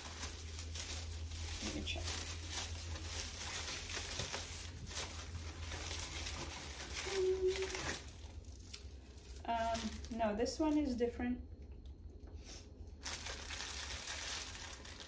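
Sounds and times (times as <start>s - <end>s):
paper wrap crinkling: 0.0s - 11.0s, 12.9s - 15.0s.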